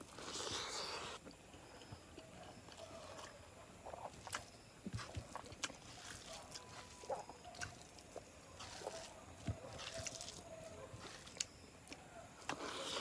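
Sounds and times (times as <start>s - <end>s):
close chewing with mouth smacks: 0.0s - 13.0s.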